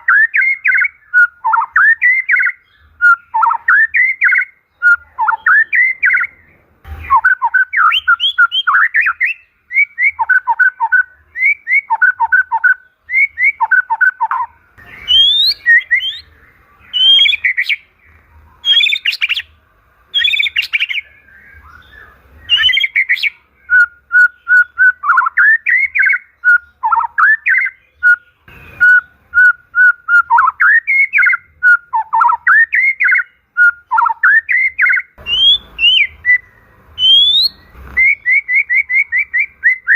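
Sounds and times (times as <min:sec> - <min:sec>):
bird singing whistled phrases: 0:00.0 - 0:17.9, 0:18.6 - 0:19.5, 0:20.1 - 0:39.9.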